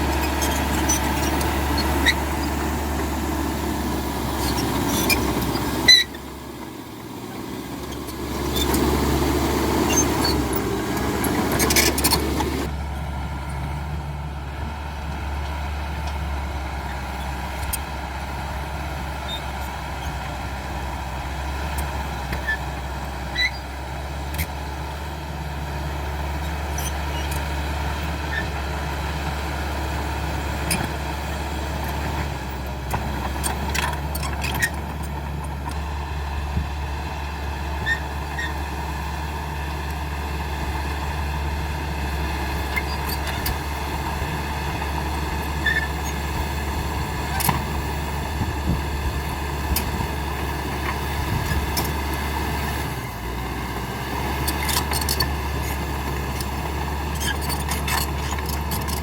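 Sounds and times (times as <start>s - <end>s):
bulldozer engine drone: 0.0s - 59.0s.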